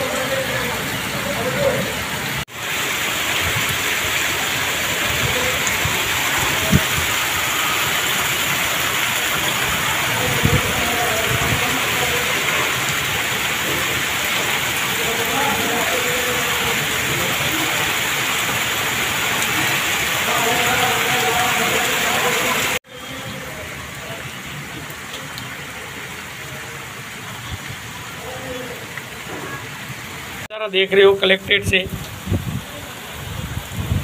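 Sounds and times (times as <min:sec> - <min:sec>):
torrential rain: 0:00.0 - 0:34.0.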